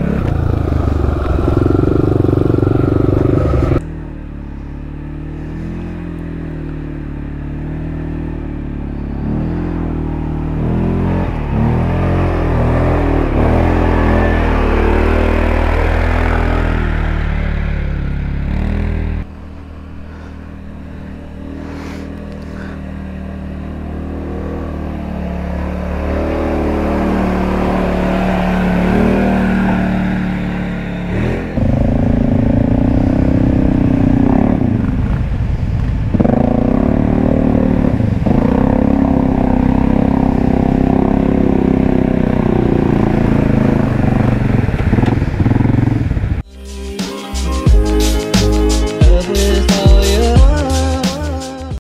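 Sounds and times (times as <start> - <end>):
atv engines revving: 0.0 - 46.5.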